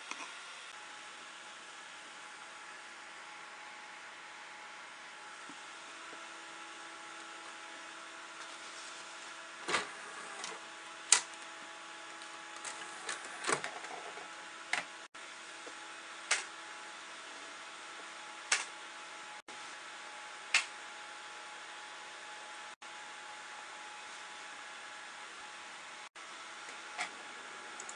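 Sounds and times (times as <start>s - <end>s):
computer fans whirring: 0.0s - 27.9s.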